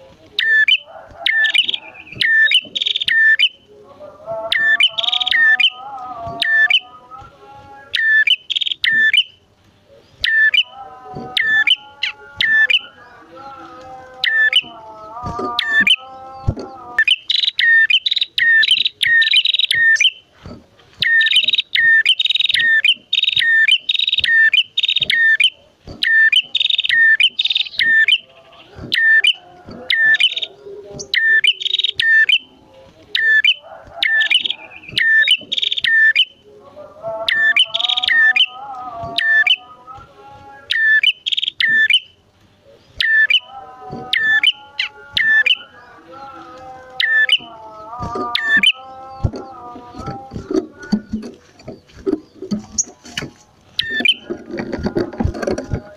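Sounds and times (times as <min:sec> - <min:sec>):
low warbling bird call: 0:00.0 - 0:03.8, 0:04.4 - 0:20.3, 0:21.0 - 0:36.5, 0:37.2 - 0:55.9
prinia birds chirping: 0:00.0 - 0:55.9.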